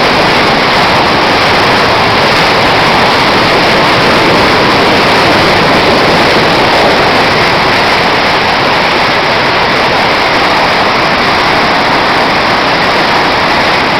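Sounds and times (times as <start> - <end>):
loud storm noise: 0.0 - 13.9.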